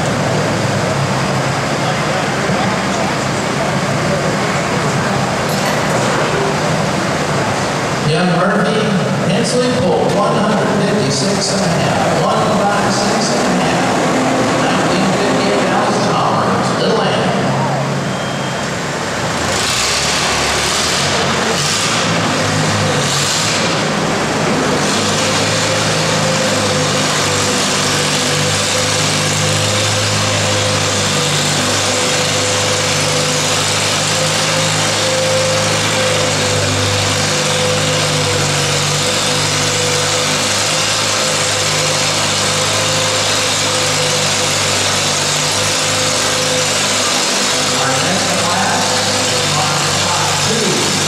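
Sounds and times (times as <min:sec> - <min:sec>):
tractor engine droning under load: 0:00.0 - 0:51.0.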